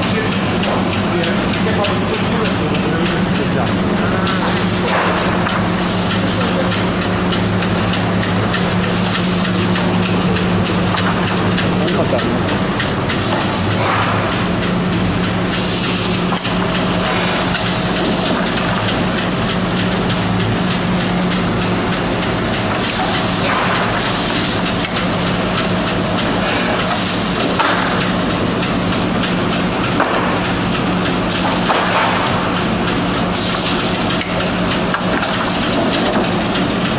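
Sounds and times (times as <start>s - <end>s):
machine hiss: 0.0s - 36.9s
wood-processing machine humming: 0.0s - 36.9s.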